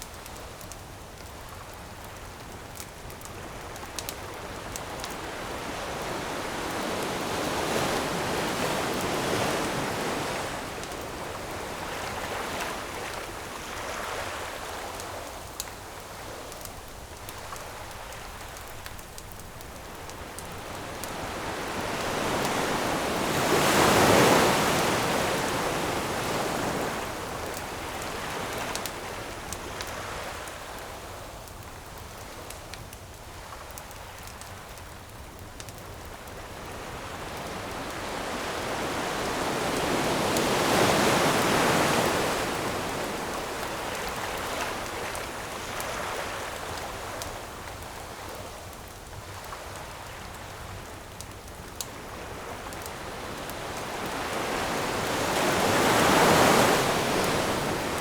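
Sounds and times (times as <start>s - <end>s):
campfire crackles: 0.0s - 58.0s
ocean waves breaking on shore: 3.2s - 31.2s, 36.3s - 48.4s, 49.2s - 58.0s.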